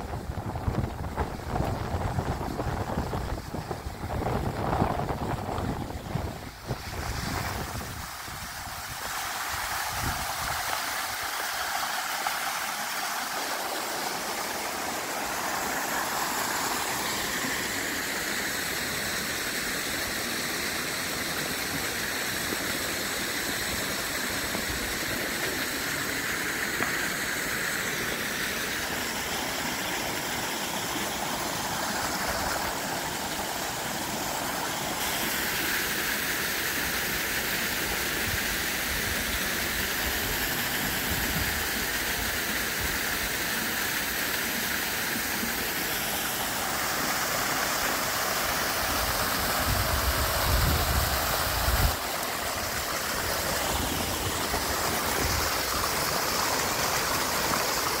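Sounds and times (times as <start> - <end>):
water gushing from drain pipes: 0.0 - 58.0.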